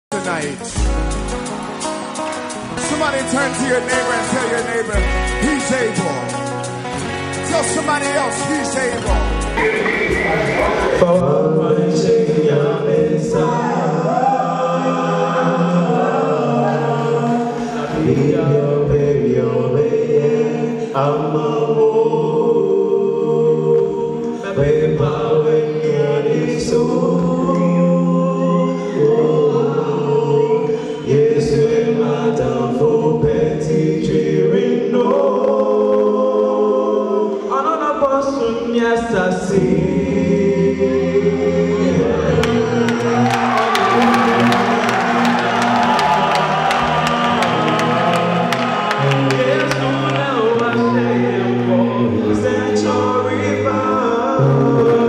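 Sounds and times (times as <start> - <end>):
choir singing gospel song: 0.7 - 55.0.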